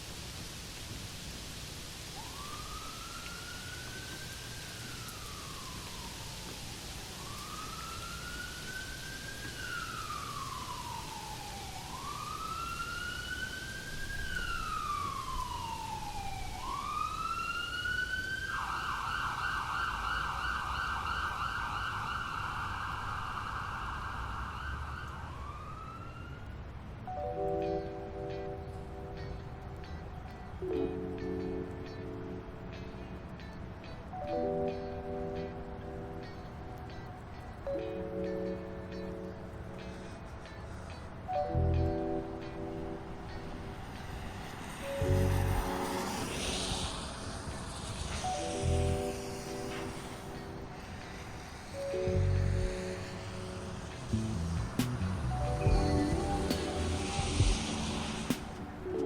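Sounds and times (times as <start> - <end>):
distant emergency vehicle siren: 0.0 - 59.0
rain hiss: 0.0 - 59.0.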